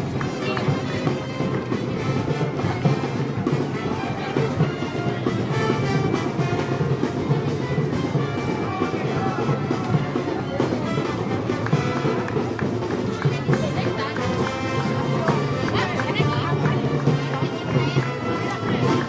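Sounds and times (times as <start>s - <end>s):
band playing live: 0.0s - 19.0s
drums: 0.0s - 19.0s.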